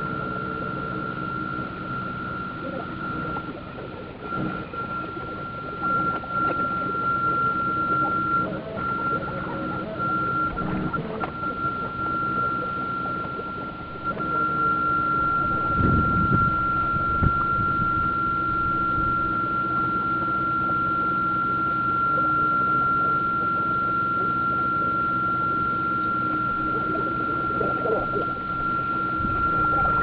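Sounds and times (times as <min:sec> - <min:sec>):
high-pitched electric motor whine: 0:00.0 - 0:30.0.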